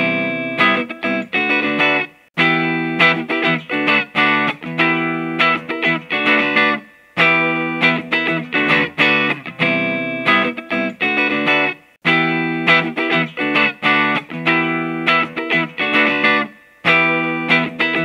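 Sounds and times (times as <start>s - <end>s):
distorted electric guitar chords: 0.0s - 18.0s.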